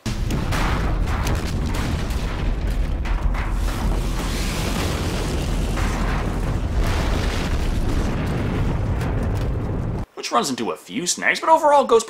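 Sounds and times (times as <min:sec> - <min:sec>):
debris cracking: 0:00.0 - 0:10.0
explosion and fire rumble: 0:00.0 - 0:10.1.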